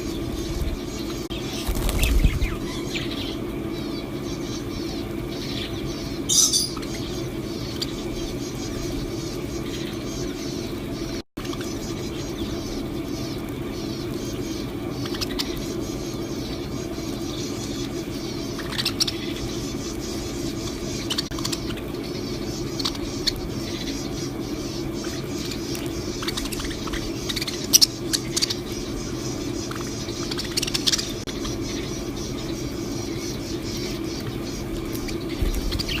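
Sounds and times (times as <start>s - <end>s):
cage birds chirping: 0.0s - 36.0s
steady low hum: 0.0s - 36.0s.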